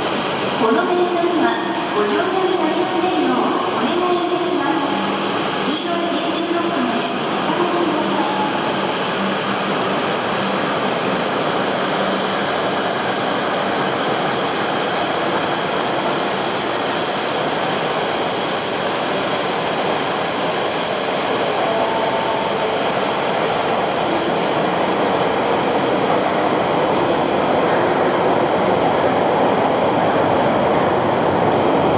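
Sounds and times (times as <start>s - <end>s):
train rushing through station: 0.0s - 31.9s.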